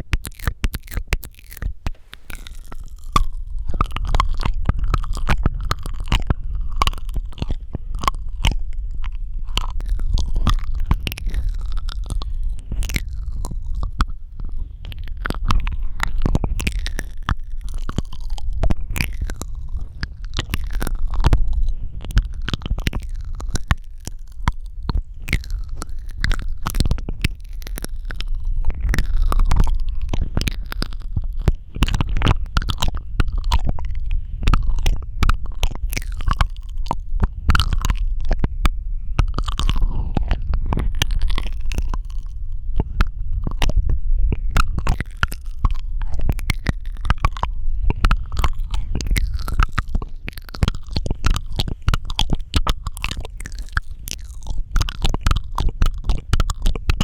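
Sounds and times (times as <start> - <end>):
microphone handling rumble: 0.0 - 57.0
wet mouth clicks and smacks: 0.0 - 57.0.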